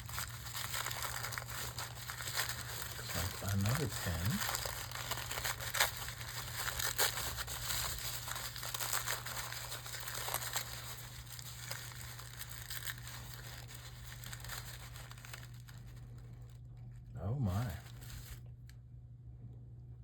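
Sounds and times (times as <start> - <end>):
wrapping crinkling and rustling: 0.0 - 18.7
steady low hum: 0.0 - 20.0.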